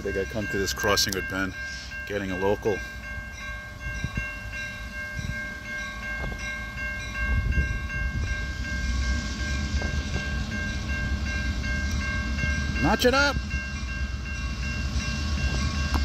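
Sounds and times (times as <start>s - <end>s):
freight train rumble: 0.0s - 16.0s
level-crossing warning bell: 0.0s - 16.0s.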